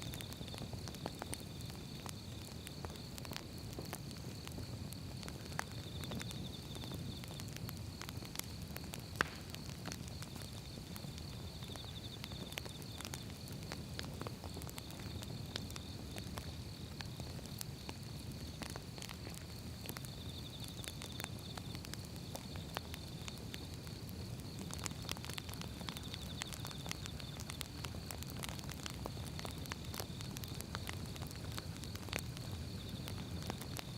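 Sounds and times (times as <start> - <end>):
fire rushing: 0.0 - 33.9
wood crackling and popping: 0.0 - 33.9.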